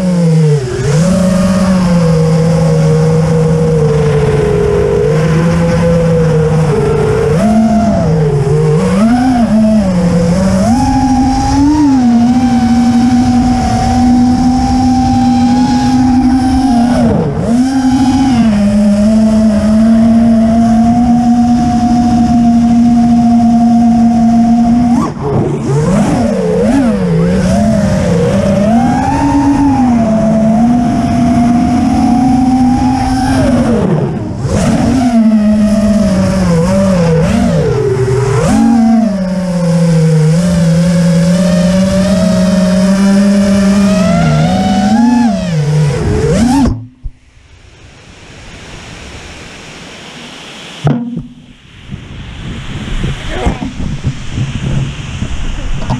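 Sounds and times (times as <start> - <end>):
quadcopter motors whining: 0.0 - 47.2.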